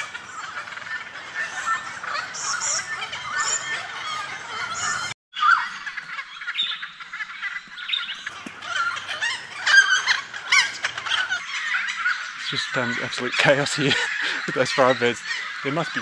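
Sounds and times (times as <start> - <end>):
friarbirds calling in chorus: 0.0 - 16.0.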